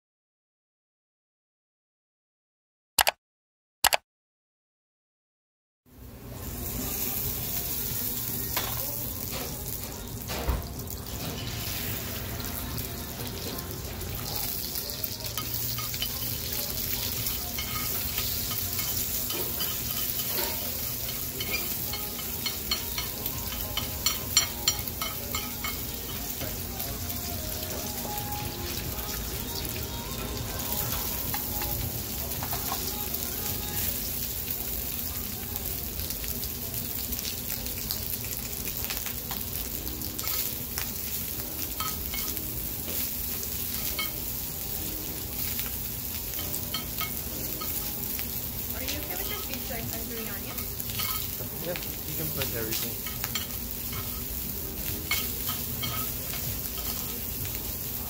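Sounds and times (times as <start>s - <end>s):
food sizzling in a stone bowl: 6.0s - 58.0s.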